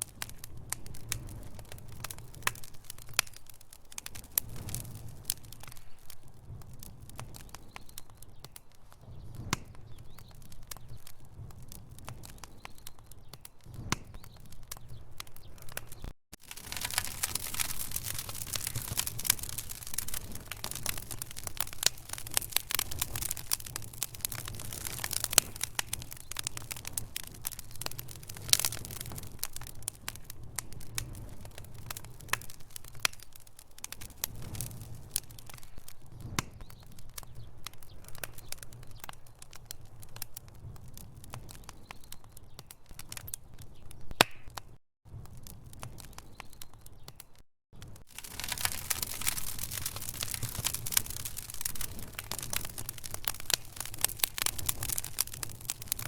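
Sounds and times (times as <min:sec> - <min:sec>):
fire crackling and popping: 0:00.0 - 0:56.0
low rumble of burning logs: 0:00.0 - 0:56.0.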